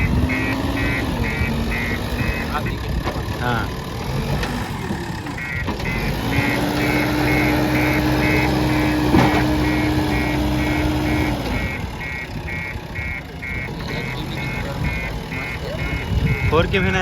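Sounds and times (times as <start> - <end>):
reversing alarm beeping: 0.0 - 3.0, 4.6 - 17.0
diesel engine running: 0.0 - 17.0.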